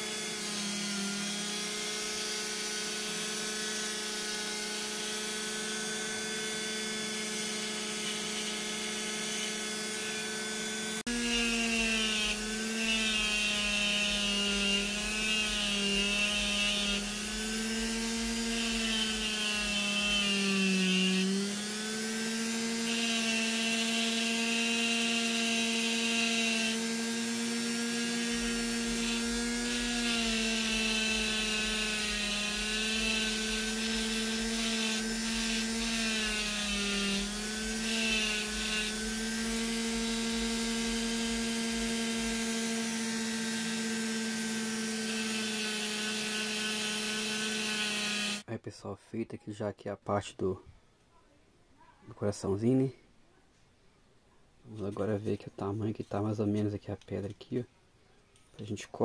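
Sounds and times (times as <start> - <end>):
rotary tool motor whine: 0.0 - 48.4.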